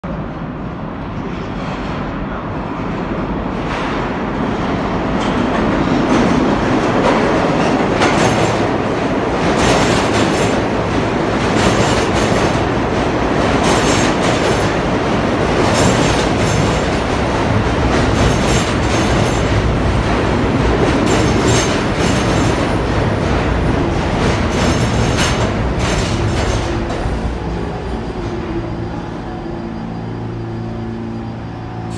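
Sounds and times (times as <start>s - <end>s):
subway train rumble: 0.0s - 31.9s.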